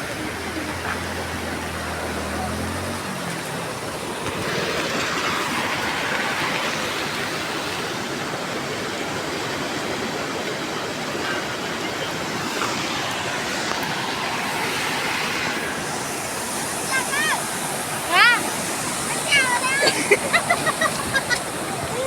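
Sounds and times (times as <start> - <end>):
river in flood rushing: 0.0 - 22.0.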